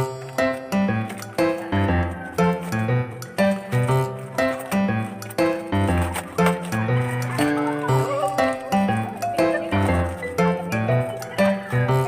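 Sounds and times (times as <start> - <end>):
plucked notes with steady beat: 0.0 - 12.0.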